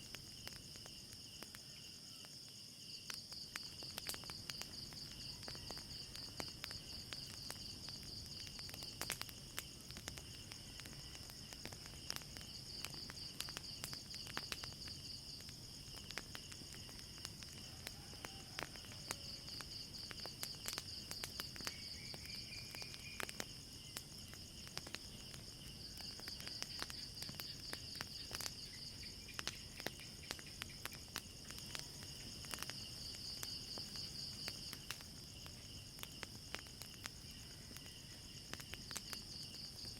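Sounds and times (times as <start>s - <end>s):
crickets chirring: 0.0s - 39.9s
wood fire crackling: 0.0s - 39.9s.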